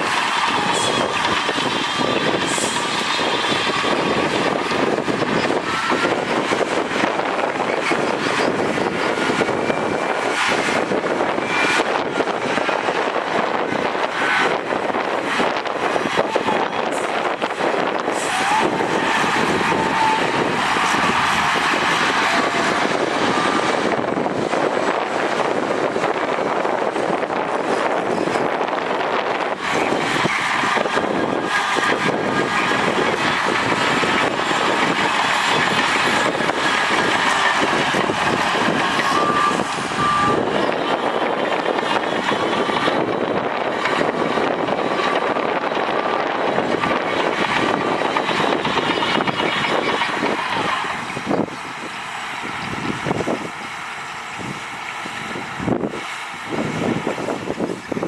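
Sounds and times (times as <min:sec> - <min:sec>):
heavy diesel machines running: 0:00.0 - 0:58.0.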